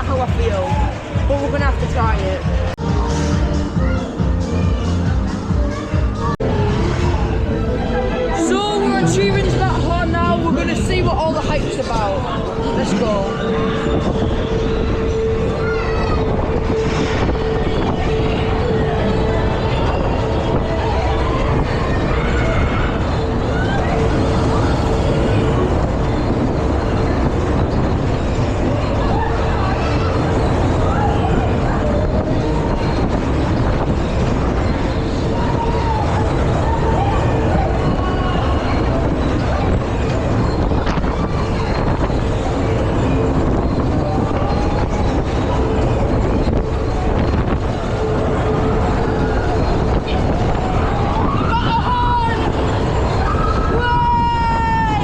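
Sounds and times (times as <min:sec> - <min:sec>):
thrill ride machinery rushing: 0:00.0 - 0:55.0.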